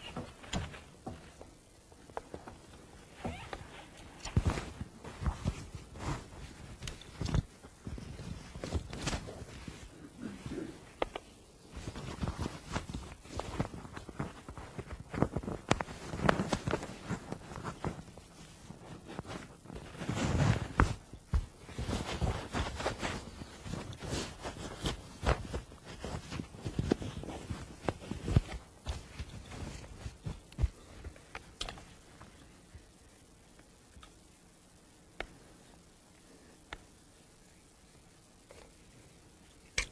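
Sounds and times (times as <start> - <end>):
rustling: 0.0 - 39.9.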